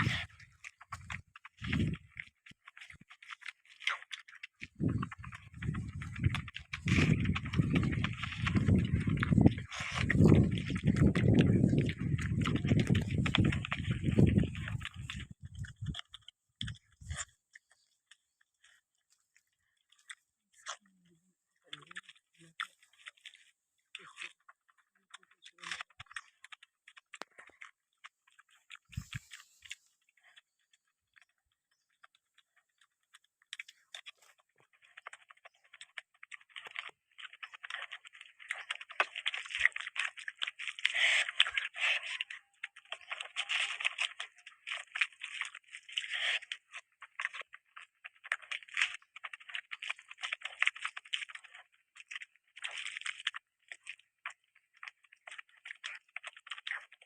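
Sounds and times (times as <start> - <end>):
close chewing and crunching: 0.0 - 57.0.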